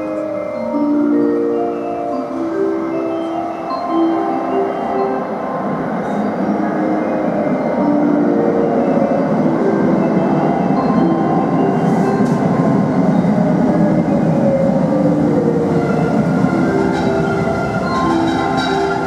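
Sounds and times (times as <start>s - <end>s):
electric train running noise: 0.0s - 19.0s.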